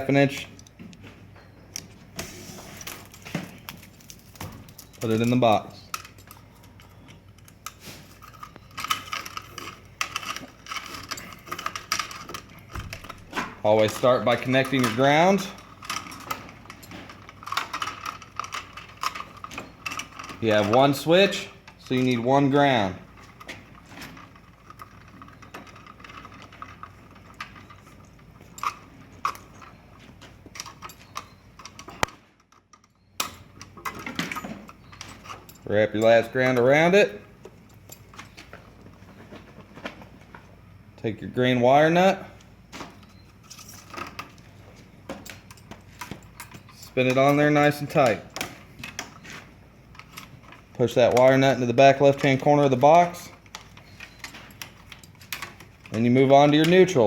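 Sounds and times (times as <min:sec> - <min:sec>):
wires clicking and scraping in metal box: 0:01.8 - 0:39.9, 0:43.0 - 0:57.0.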